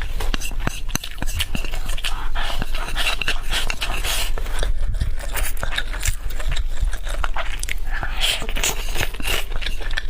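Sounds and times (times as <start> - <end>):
mouth clicks and chewing: 0.0 - 10.0
wet slurping: 0.0 - 10.0.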